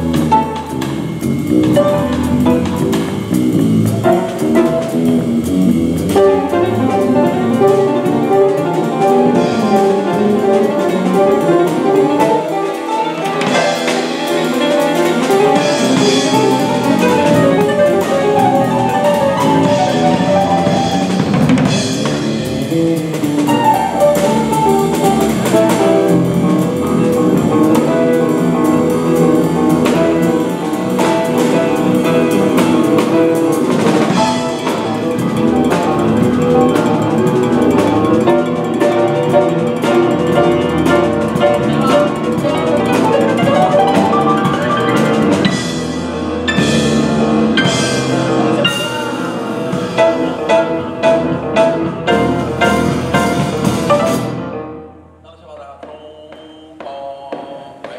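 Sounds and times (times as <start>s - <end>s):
jazz piano: 0.0s - 55.3s
drum kit: 0.0s - 57.9s.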